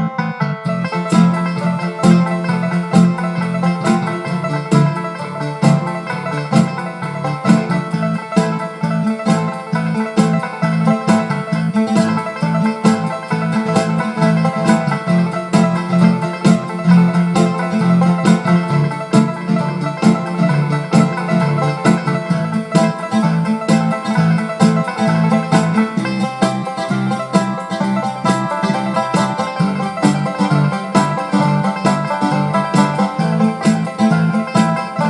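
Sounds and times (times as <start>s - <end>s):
banjo picking: 0.0s - 35.0s
bass: 0.0s - 35.0s
mandolin: 0.0s - 35.0s
twelve-string guitar: 0.0s - 35.0s
steady drum beat: 0.8s - 35.0s.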